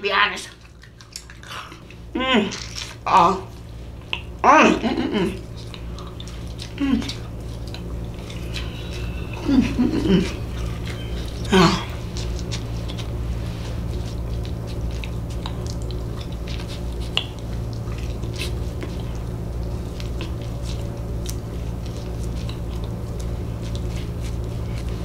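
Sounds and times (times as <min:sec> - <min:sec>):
steady low hum: 0:00.0 - 0:25.0
wet chewing and lip-smacking: 0:00.1 - 0:04.4, 0:05.2 - 0:25.0.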